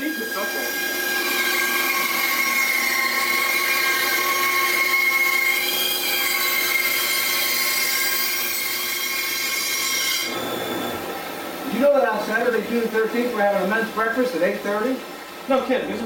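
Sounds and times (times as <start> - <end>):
band saw cutting wood: 0.0 - 16.0.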